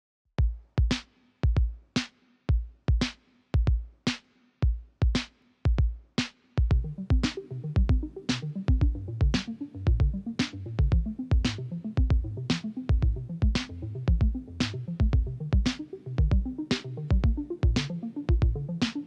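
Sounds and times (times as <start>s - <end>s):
drum machine beat: 0.4s - 19.0s.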